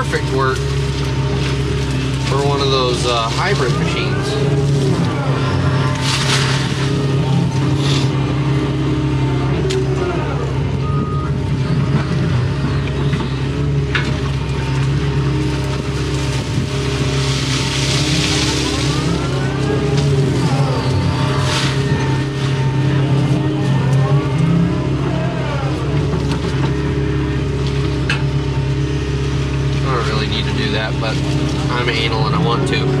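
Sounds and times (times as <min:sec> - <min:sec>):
diesel engine running: 0:00.0 - 0:33.0
hydraulic whine: 0:00.0 - 0:33.0.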